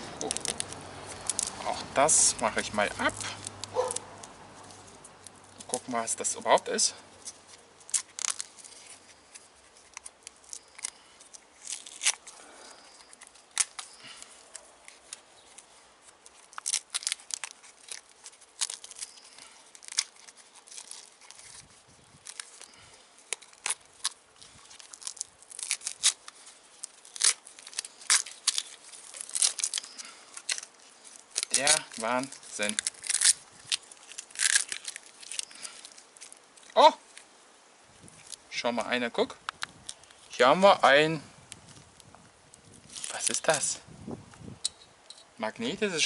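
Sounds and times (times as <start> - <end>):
tape peeling with crackling rips: 0.0 - 46.0.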